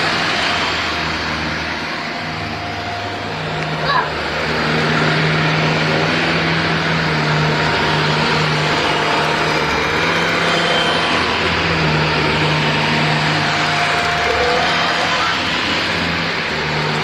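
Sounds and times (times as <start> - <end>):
mechanical running noise: 0.0 - 17.0.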